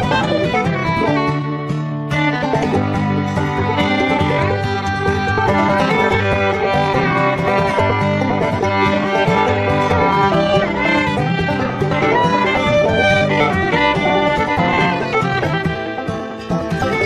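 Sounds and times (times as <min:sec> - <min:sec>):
bluegrass fiddle banjo and guitar: 0:00.0 - 0:17.0.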